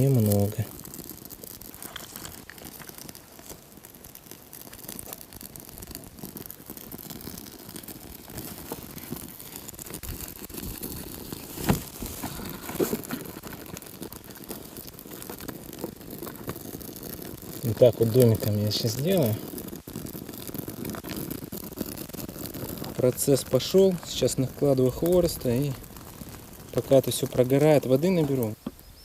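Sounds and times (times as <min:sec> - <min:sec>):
sharp crack of twig: 0:00.0 - 0:28.9
bark and twigs crinkling: 0:00.0 - 0:29.0.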